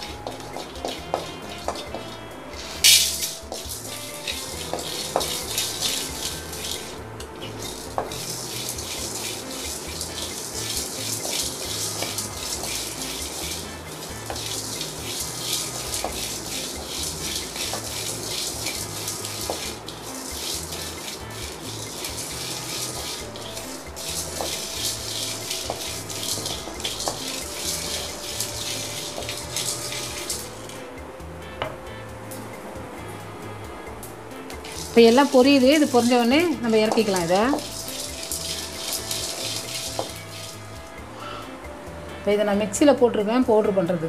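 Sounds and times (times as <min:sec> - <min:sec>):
spatula scraping spices in pan: 0:00.2 - 0:30.8, 0:34.6 - 0:40.7.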